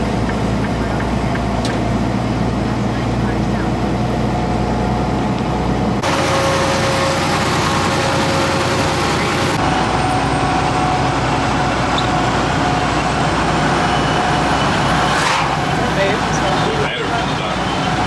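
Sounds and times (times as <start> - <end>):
truck road noise: 0.0 - 18.0.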